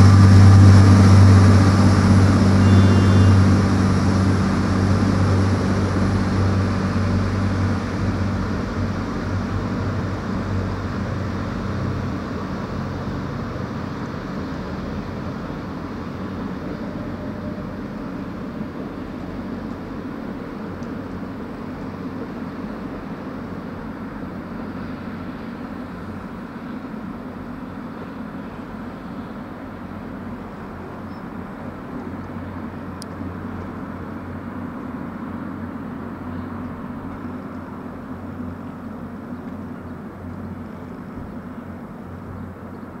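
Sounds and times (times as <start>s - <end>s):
diesel engine drone: 0.0s - 43.0s.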